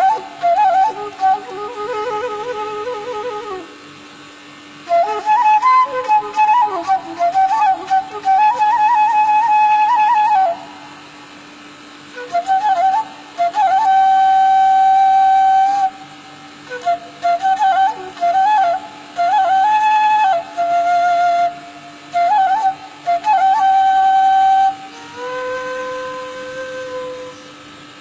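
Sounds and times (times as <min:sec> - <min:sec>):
bamboo flute melody: 0:00.0 - 0:11.1, 0:12.0 - 0:28.0
faint steady hum: 0:00.0 - 0:28.0.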